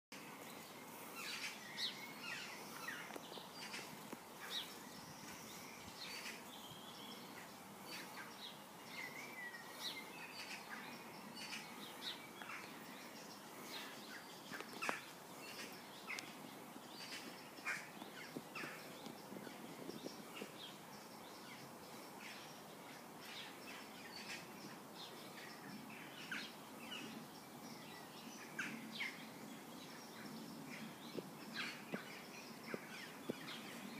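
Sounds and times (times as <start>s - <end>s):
outdoor background hiss: 0.1s - 33.9s.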